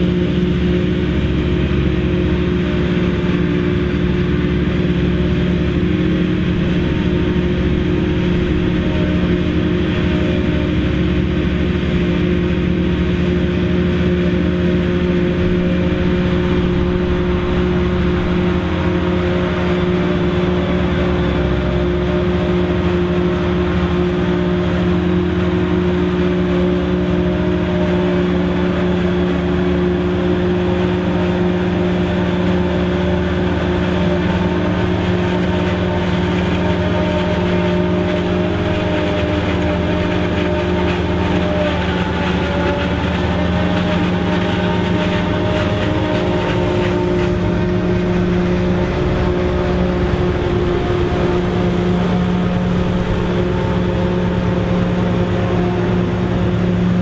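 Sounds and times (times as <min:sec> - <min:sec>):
tractor diesel engine under load: 0:00.0 - 0:57.0
forage harvester chopping maize: 0:00.1 - 0:57.0.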